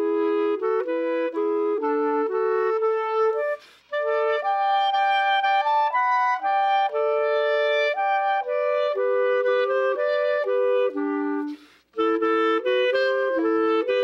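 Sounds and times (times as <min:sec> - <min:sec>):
clarinet duet: 0:00.0 - 0:14.0.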